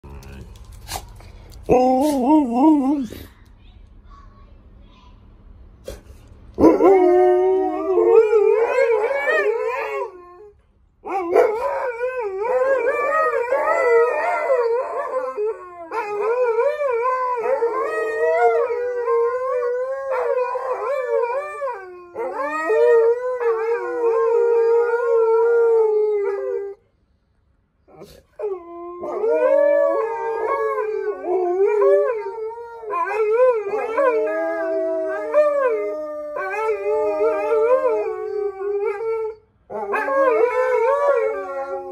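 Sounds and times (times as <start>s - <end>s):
dogs howling: 6.6s - 10.5s, 11.1s - 26.8s, 27.9s - 41.9s.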